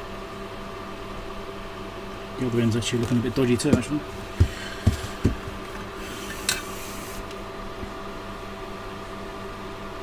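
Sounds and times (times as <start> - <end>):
small electric fan humming: 0.0 - 10.0.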